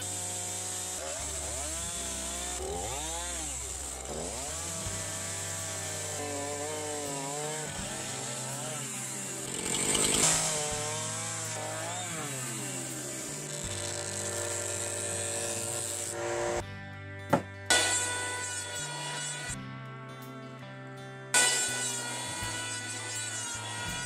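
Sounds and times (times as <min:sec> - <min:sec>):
chainsaw cutting wood: 0:00.0 - 0:16.7, 0:17.3 - 0:20.5, 0:21.3 - 0:24.0.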